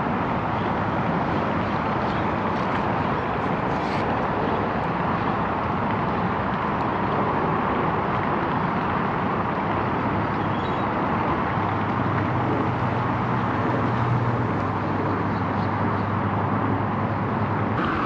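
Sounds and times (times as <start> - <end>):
wind noise on microphone: 0.0 - 18.0.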